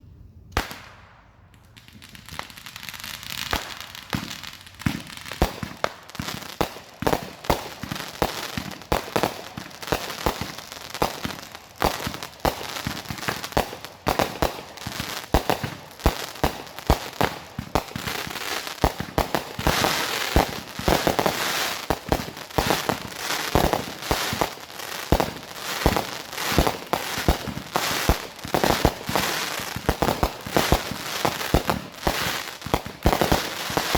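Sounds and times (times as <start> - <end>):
fireworks bangs and crackling: 0.6 - 33.9.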